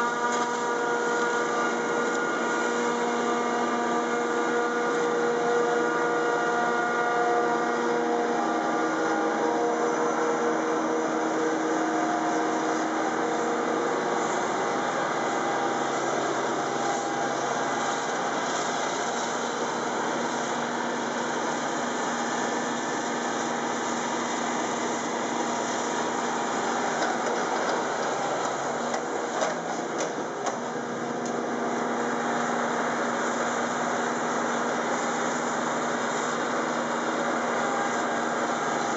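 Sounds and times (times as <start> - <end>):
forage harvester mechanical drone: 0.0 - 38.9.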